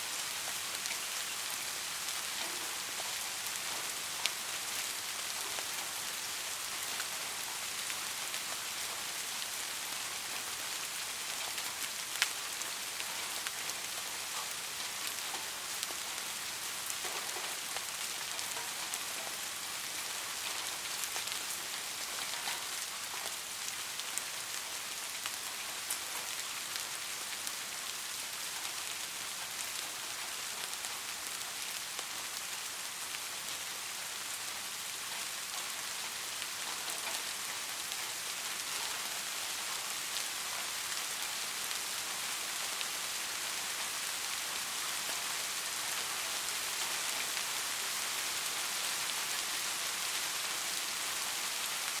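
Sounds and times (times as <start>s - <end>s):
gentle rain falling: 0.0s - 52.0s.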